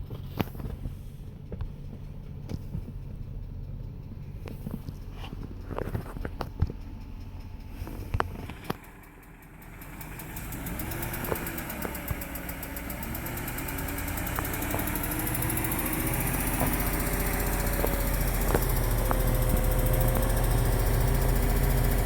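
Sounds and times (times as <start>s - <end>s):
car engine idling with ticking: 0.0s - 22.0s.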